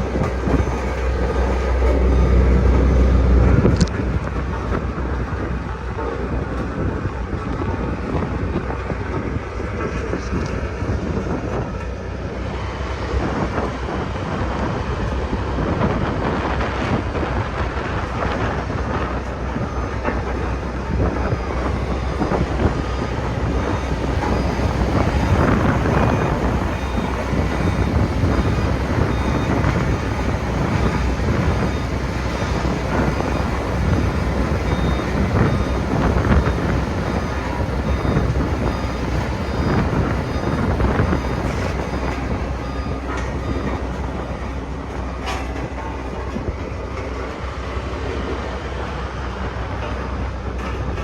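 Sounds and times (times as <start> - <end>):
road roller diesel engine rumbling: 0.0 - 51.0.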